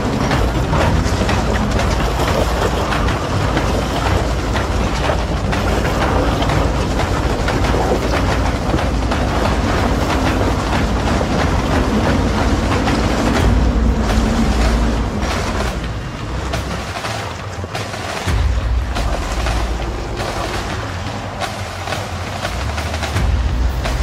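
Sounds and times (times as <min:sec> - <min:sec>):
pickup engine rumble: 0:00.0 - 0:24.0
rattling clatter: 0:00.0 - 0:24.0.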